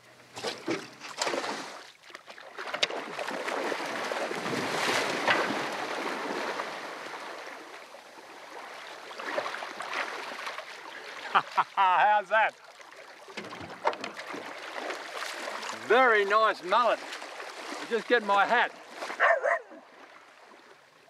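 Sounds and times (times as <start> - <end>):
splashing through shallow water: 0.4 - 21.0.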